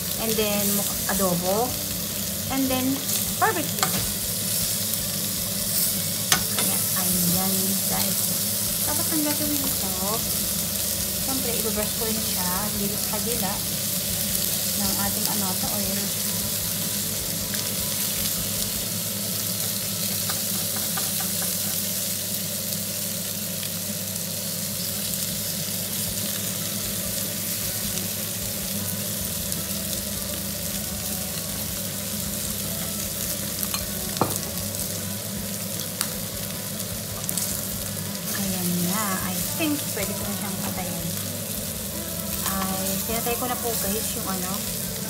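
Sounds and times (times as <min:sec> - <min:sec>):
skewers sizzling on a stove: 0:00.0 - 0:45.0.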